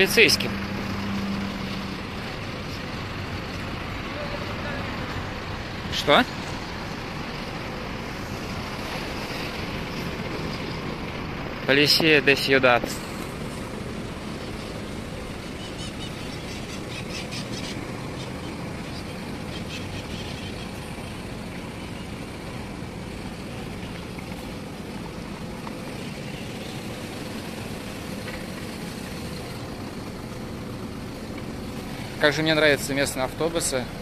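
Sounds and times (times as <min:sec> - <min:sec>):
city street traffic: 0:00.0 - 0:34.0.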